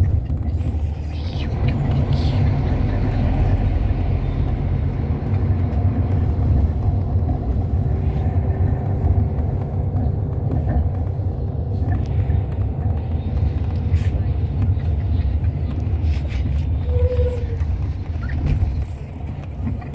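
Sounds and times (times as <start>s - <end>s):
bus engine and road rumble: 0.0s - 19.9s.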